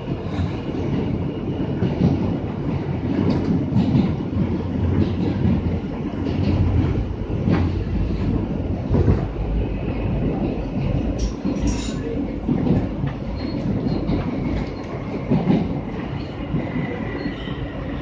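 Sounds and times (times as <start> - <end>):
subway train rumbling in tunnel: 0.0 - 18.0.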